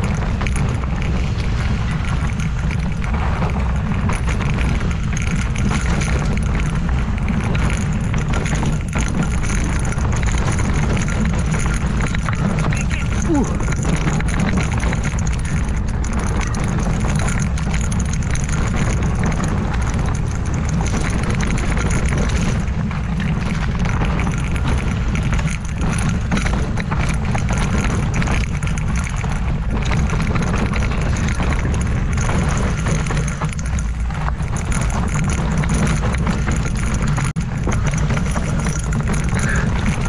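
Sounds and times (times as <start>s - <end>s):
bike tyres clattering over rocks: 0.0s - 40.0s
wind rumble on microphone: 0.0s - 40.0s.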